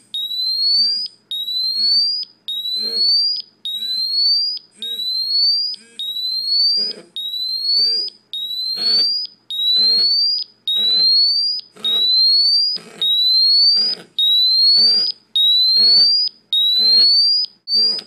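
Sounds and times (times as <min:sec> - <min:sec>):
gas detector alarm beeping: 0:00.0 - 0:18.0.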